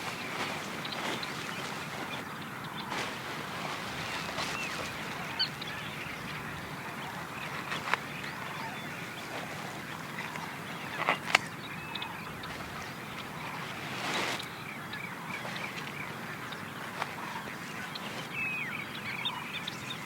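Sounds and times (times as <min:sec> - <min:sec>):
steady background hiss: 0:00.0 - 0:18.4
birds calling: 0:00.0 - 0:20.0.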